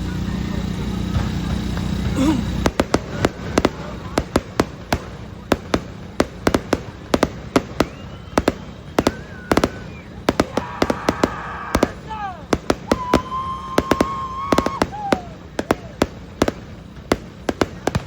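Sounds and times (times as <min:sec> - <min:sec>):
firework bangs and cracks: 0:00.6 - 0:18.0
faint firework whistle: 0:02.6 - 0:18.0.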